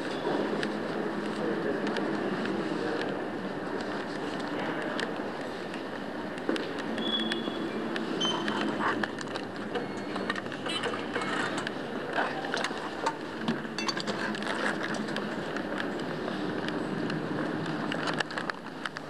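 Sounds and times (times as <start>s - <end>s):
station hall hum: 0.0s - 19.0s
turnstile clicks and clacks: 0.0s - 19.0s.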